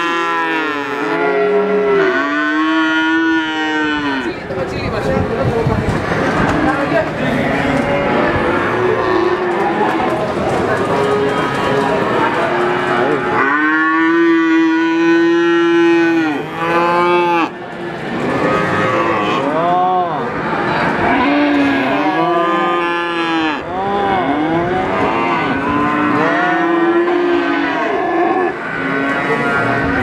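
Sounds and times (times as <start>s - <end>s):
calves mooing: 0.0s - 4.4s, 7.2s - 17.6s, 18.2s - 20.2s, 21.0s - 30.0s.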